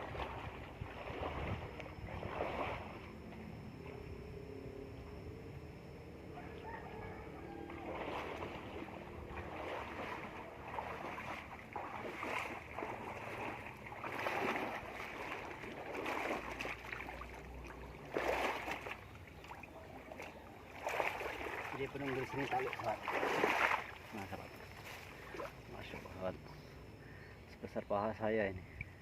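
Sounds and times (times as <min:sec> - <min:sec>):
water splashing and sloshing: 0:00.0 - 0:04.3, 0:06.2 - 0:27.3.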